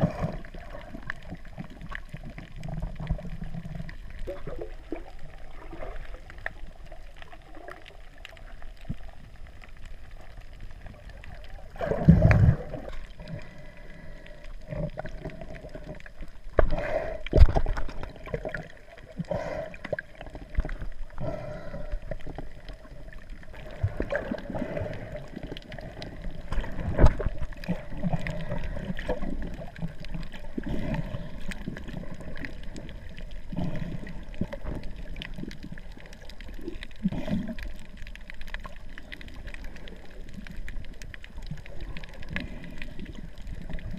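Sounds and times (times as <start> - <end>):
water sloshing underwater: 0.0 - 43.9.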